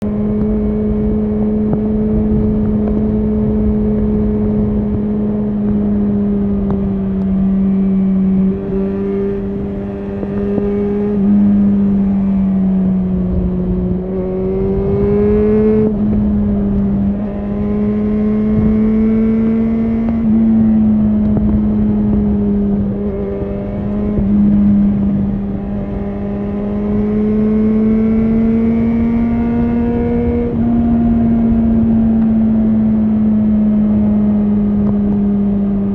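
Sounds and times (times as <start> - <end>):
motorcycle engine revving while riding: 0.0 - 35.9.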